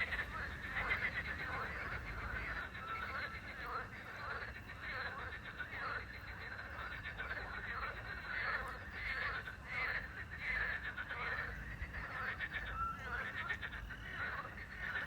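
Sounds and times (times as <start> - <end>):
chorus of frogs croaking: 0.0 - 15.0.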